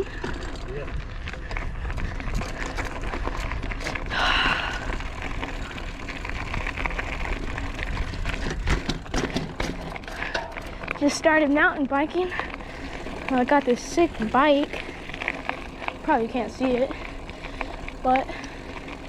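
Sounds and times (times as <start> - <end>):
bike clicks and rattles: 0.0 - 19.0
bike tyres rolling on dirt: 0.0 - 19.0.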